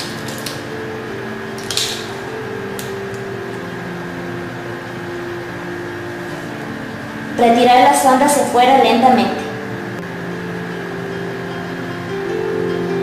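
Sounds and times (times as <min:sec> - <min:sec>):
background hum with held tones: 0:00.0 - 0:13.0.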